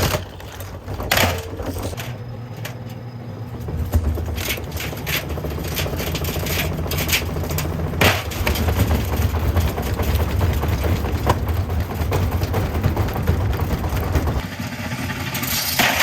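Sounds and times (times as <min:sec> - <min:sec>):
washing machine unbalanced spin: 0:00.0 - 0:14.5.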